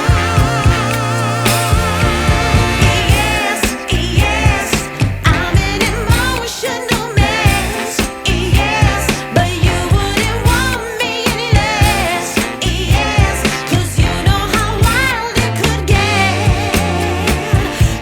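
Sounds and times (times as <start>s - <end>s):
music with singing voice: 0.0s - 18.0s.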